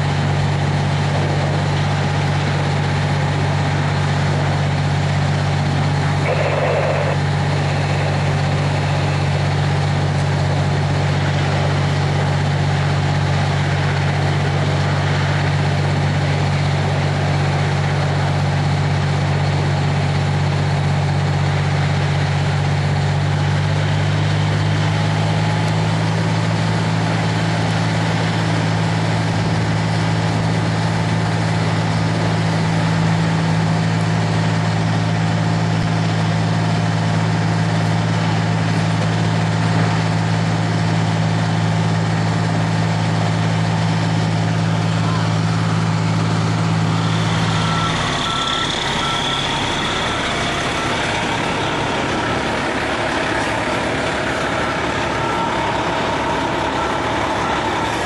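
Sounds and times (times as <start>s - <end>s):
diesel engine running: 0.0s - 58.0s
rushing of burning gas: 0.0s - 58.0s.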